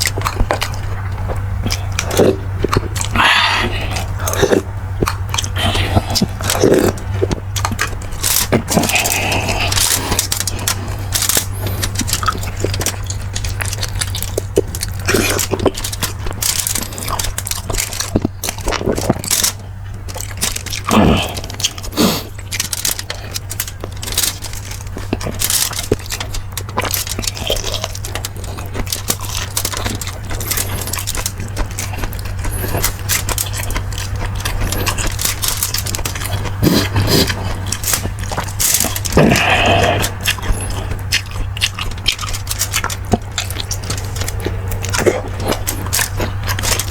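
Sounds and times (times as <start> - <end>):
chewing: 0.0 - 46.9
low hum: 0.0 - 46.9.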